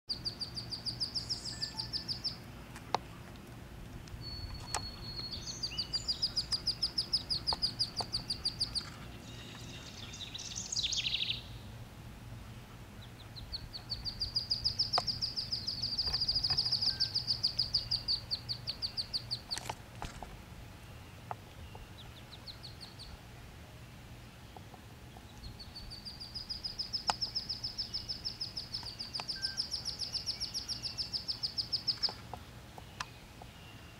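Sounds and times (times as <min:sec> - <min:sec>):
ducklings peeping: 0:00.1 - 0:03.5, 0:04.1 - 0:11.6, 0:12.3 - 0:33.9.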